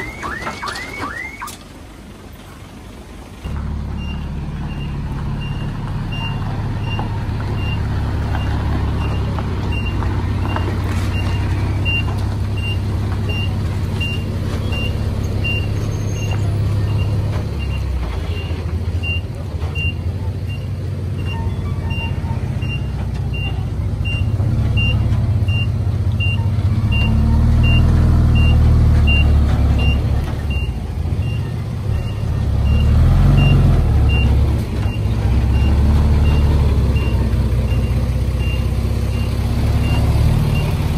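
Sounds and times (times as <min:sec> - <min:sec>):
reversing alarm beeping: 0:00.0 - 0:01.6, 0:03.9 - 0:40.8
heavy diesel engine running: 0:01.7 - 0:40.9.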